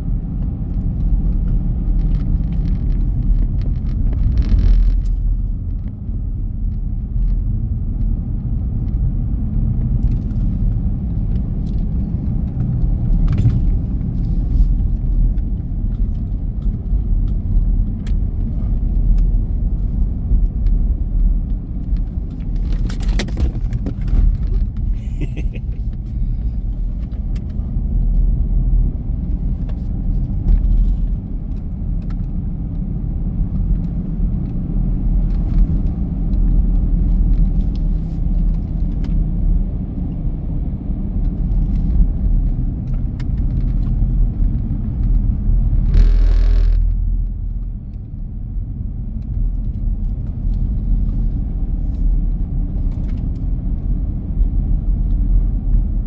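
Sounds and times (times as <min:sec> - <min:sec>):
low vehicle rumble: 0:00.0 - 0:56.0.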